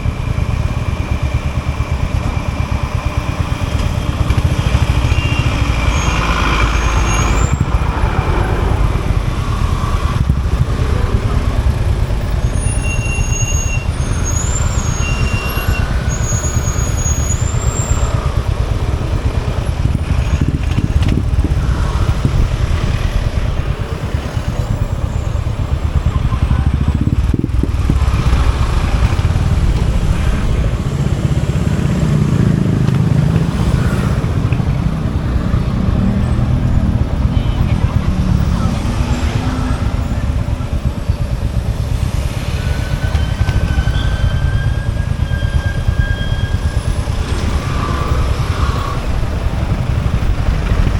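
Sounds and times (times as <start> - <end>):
motorcycle engine running: 0.0 - 50.9
road traffic noise: 0.0 - 50.9.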